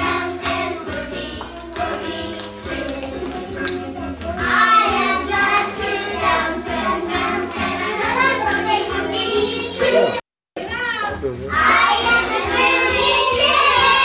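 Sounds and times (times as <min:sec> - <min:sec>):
children singing: 0:00.0 - 0:10.2, 0:11.6 - 0:14.0
instrumental backing music: 0:00.0 - 0:14.0.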